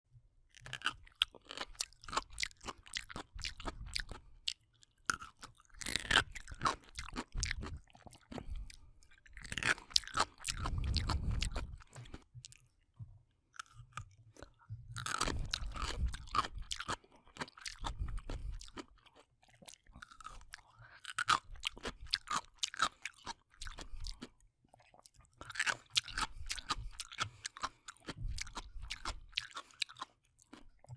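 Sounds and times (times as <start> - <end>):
person chewing crunchy pickles: 0.5 - 12.8, 13.6 - 30.9.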